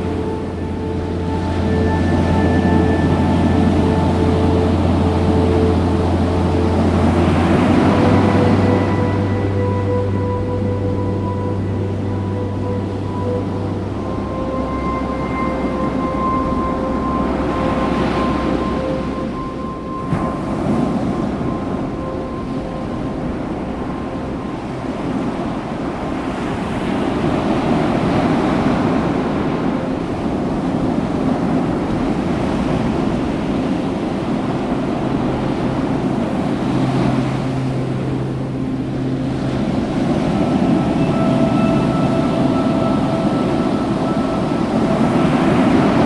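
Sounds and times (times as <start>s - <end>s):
faint held tone: 0.0s - 46.0s
ocean surf washing in: 0.0s - 46.0s
wind rumbling on microphone: 0.0s - 46.0s.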